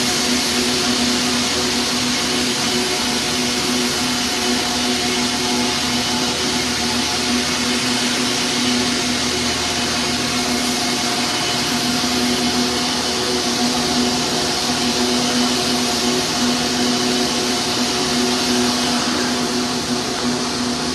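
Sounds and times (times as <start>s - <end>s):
knitting machine humming and hissing: 0.0s - 20.9s.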